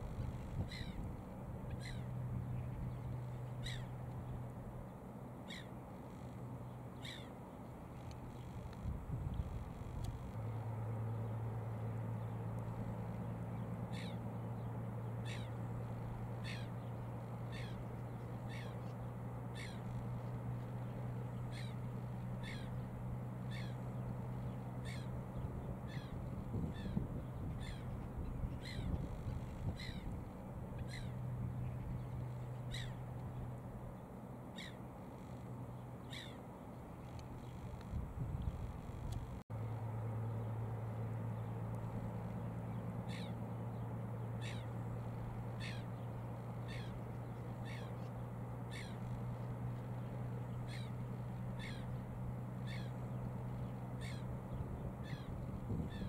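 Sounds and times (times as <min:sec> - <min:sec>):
bird calling: 0:00.0 - 0:04.5, 0:05.4 - 0:07.4, 0:11.2 - 0:38.0, 0:41.2 - 0:56.0
steady low hum: 0:00.0 - 0:56.0.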